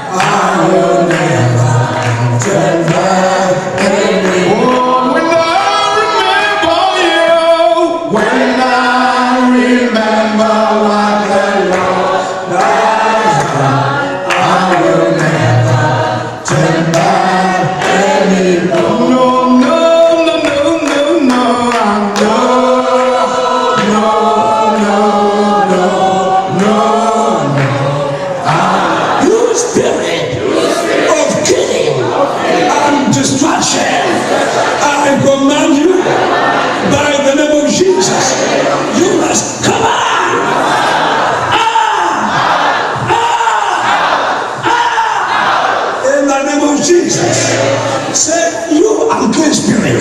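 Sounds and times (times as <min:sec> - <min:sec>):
group singing gospel song: 0:00.0 - 0:50.0.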